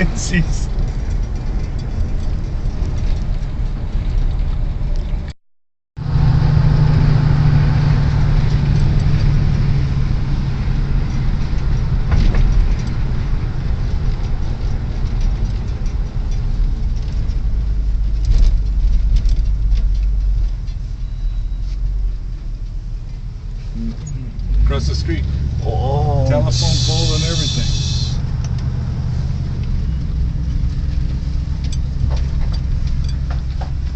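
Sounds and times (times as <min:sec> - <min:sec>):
car engine and road rumble: 0:00.0 - 0:05.4, 0:06.0 - 0:33.9.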